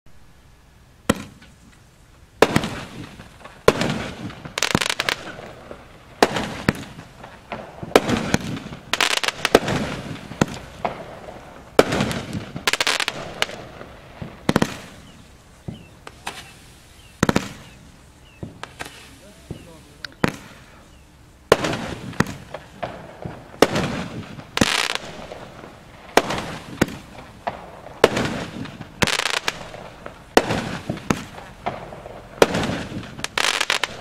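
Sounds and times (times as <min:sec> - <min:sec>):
fireworks reports: 0:02.4 - 0:34.0.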